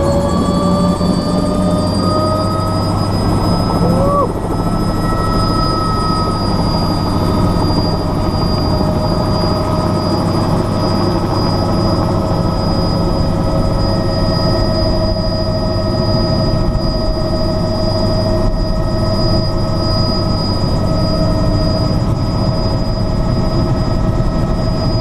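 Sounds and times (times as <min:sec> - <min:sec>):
helicopter engine and rotor: 0:00.0 - 0:25.0
high whine: 0:00.0 - 0:25.0.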